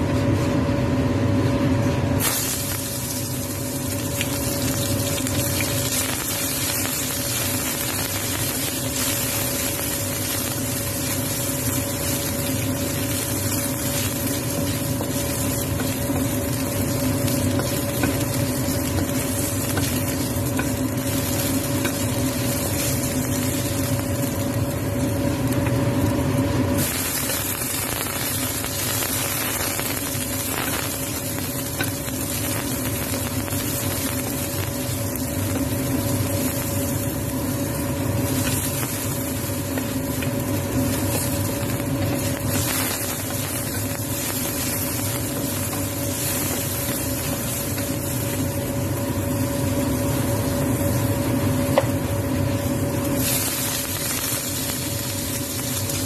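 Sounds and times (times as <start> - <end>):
oil sizzling in a wok: 0.0 - 56.0
steady low hum: 0.0 - 56.0
wooden spatula stir-frying: 2.8 - 56.0.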